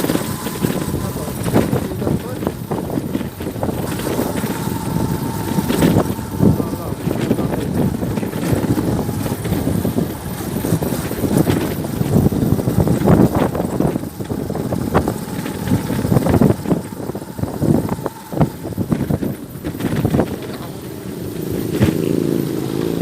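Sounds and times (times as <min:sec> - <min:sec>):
vehicle engine and road rumble: 0:00.0 - 0:23.0
wind buffeting microphone: 0:00.0 - 0:23.0.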